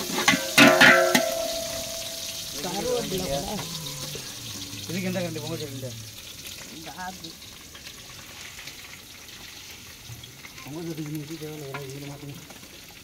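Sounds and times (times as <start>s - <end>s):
wood fire hissing and crackling: 0.0s - 13.0s.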